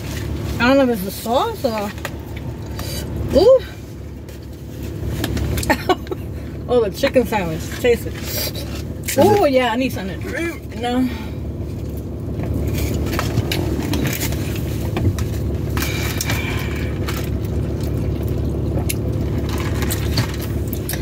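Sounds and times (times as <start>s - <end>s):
low hum inside a car: 0.0s - 21.0s.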